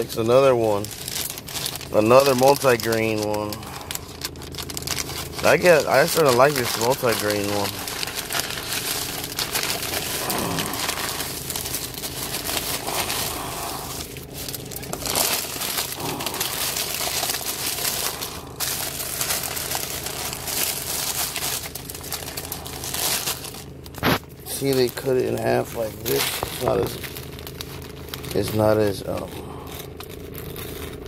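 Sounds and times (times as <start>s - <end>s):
paper rustling and crinkling: 0.0s - 31.0s.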